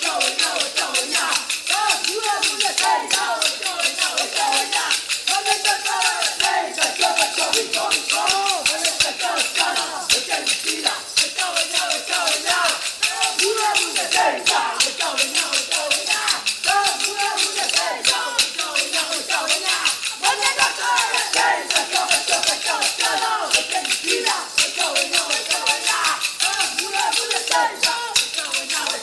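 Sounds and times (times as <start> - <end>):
voices singing: 0.0 - 29.0
wooden sticks clacking: 0.0 - 29.0.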